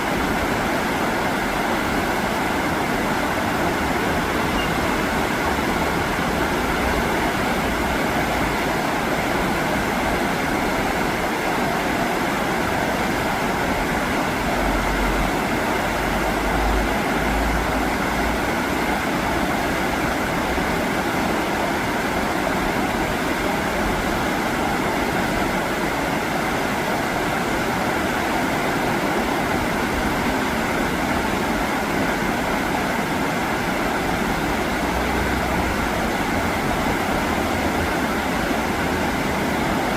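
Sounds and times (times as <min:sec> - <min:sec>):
river current rushing: 0:00.0 - 0:39.9.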